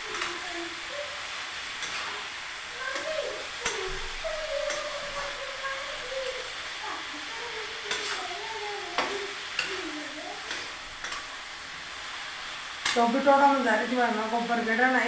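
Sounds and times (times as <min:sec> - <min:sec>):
food frying in a pan: 0:00.0 - 0:15.0.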